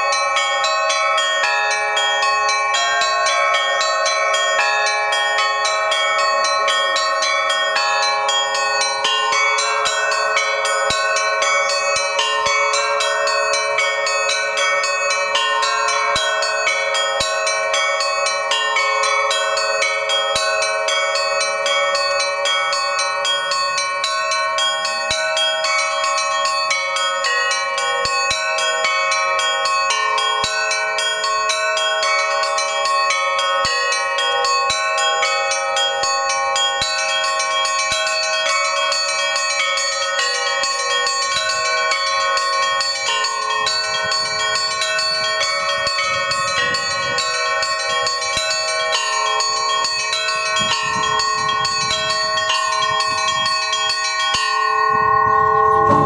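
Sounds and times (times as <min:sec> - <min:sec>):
peal of bells: 0:00.0 - 0:56.0.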